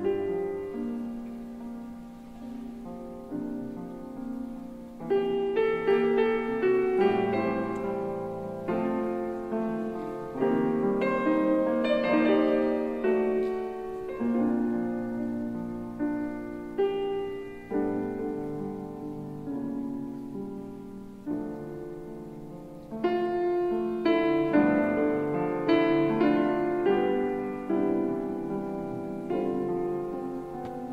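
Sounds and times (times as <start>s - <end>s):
gentle solo piano: 0.0s - 30.9s.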